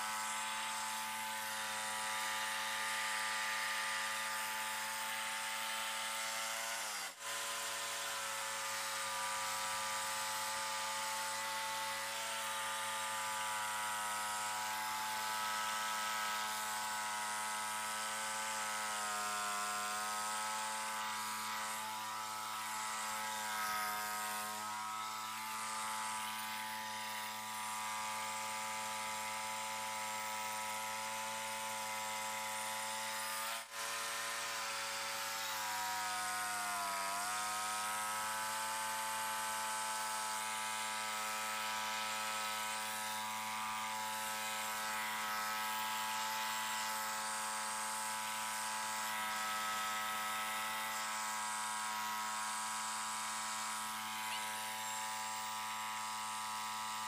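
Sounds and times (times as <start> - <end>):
band blade cutting log: 0.0 - 57.0.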